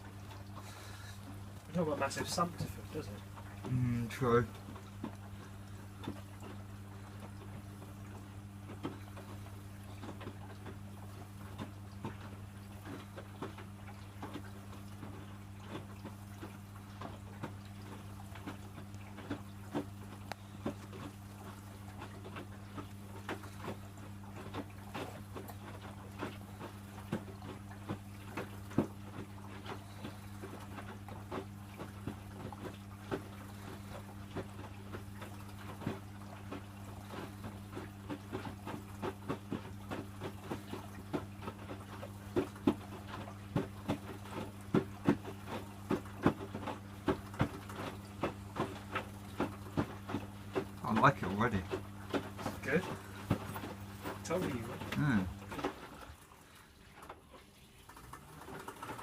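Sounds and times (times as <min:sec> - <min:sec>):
washing machine low hum: 0:00.0 - 0:59.0
washing machine slaps and splashes: 0:00.0 - 0:59.0.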